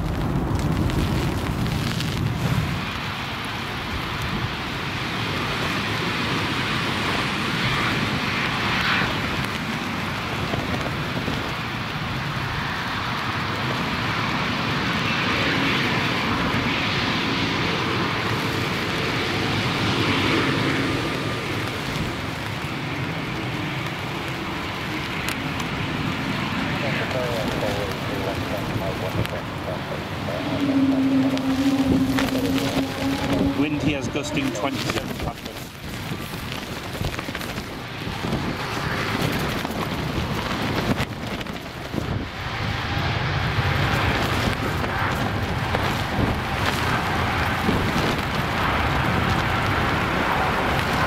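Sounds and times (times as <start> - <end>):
jet engines at takeoff power: 0.0 - 51.0
wind rumbling on microphone: 0.0 - 51.0.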